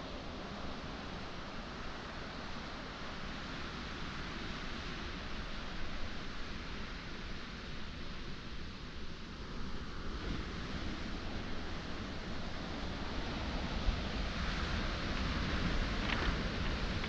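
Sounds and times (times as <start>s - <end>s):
surf on pebble shore: 0.0s - 17.0s
wind on microphone: 0.0s - 17.0s.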